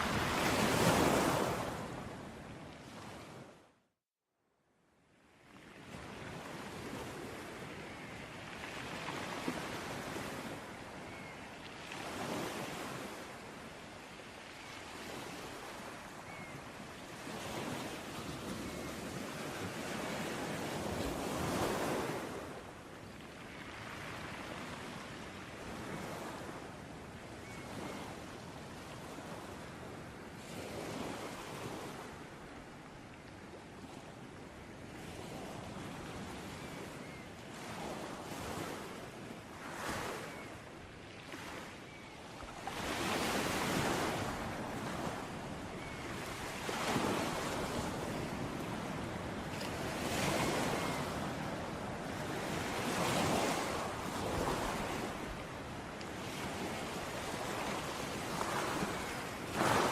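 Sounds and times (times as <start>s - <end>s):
waves breaking on shore: 0.0s - 3.6s, 5.5s - 59.9s.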